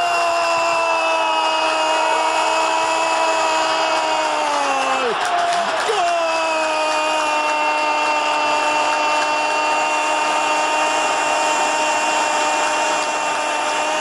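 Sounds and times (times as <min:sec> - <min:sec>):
commentator's drawn-out goal cry: 0:00.0 - 0:14.0
stadium crowd cheering: 0:00.0 - 0:14.0.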